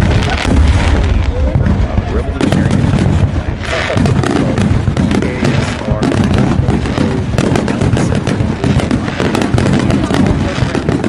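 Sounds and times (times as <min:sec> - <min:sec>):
low rumble: 0:00.0 - 0:10.9
crackling and popping: 0:00.0 - 0:11.0.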